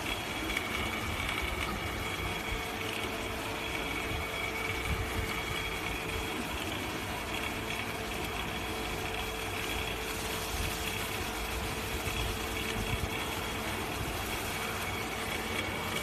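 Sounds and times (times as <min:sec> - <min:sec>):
machine humming with high whine: 0:00.0 - 0:16.0.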